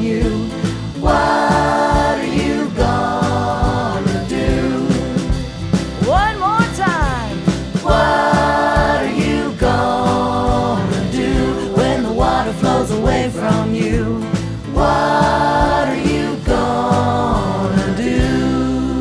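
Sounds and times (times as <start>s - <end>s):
song with choir-like vocal harmonies: 0.0s - 6.3s, 6.9s - 19.0s
steady beat: 0.0s - 18.6s.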